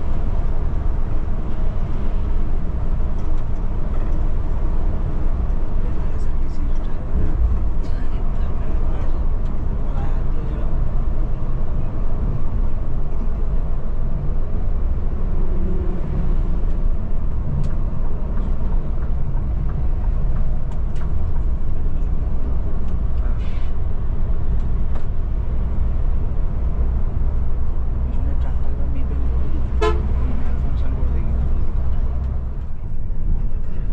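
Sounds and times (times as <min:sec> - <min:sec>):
coach engine and road noise: 0:00.0 - 0:33.9.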